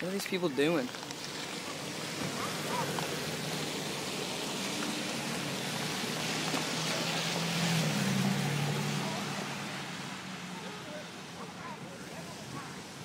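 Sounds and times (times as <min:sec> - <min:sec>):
road and tyre noise hiss: 0:00.0 - 0:13.0.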